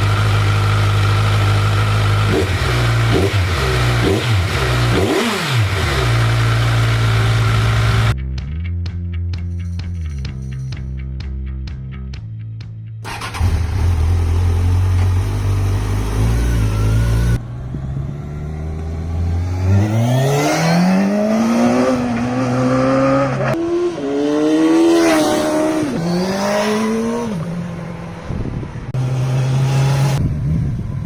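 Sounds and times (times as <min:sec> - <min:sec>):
motorcycle engine revving: 0:00.0 - 0:08.2, 0:13.0 - 0:31.0.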